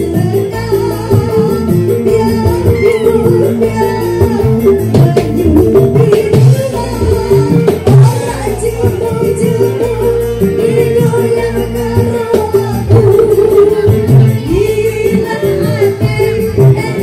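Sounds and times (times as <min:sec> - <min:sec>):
electric guitar: 0:00.0 - 0:17.0
live band: 0:00.0 - 0:17.0
woman singing folk song: 0:00.0 - 0:17.0.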